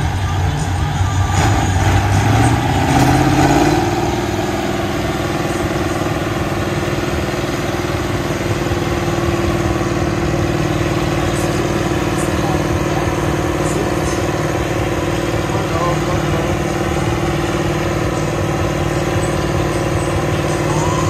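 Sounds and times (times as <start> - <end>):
tractor engine revving: 0.0 - 21.0.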